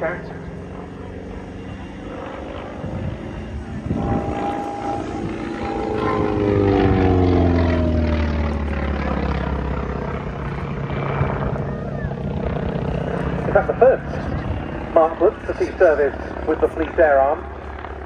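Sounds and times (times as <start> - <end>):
low engine drone: 0.0 - 18.0
propeller aircraft engine taxiing: 0.0 - 18.0.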